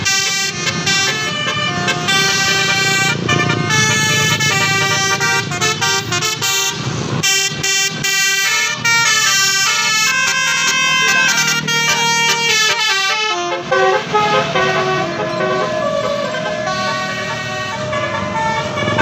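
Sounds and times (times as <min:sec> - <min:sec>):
multi-tone bus air horn melody: 0:00.0 - 0:19.0
passing traffic: 0:00.0 - 0:19.0.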